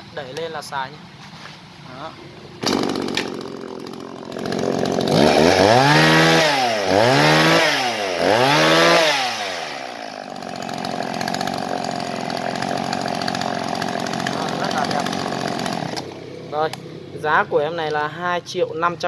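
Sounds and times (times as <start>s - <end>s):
chainsaw idling and revving: 2.6s - 18.0s.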